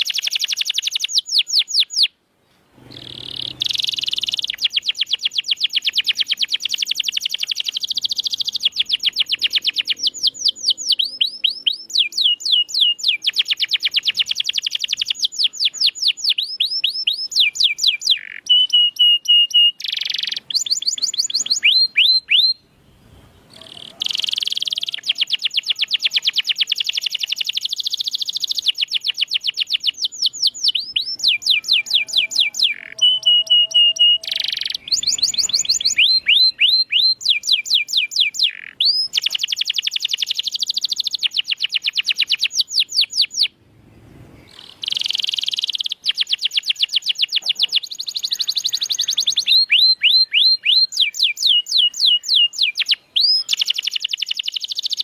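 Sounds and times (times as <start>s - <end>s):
canary singing: 0.0s - 2.2s, 2.8s - 43.6s, 44.3s - 55.0s.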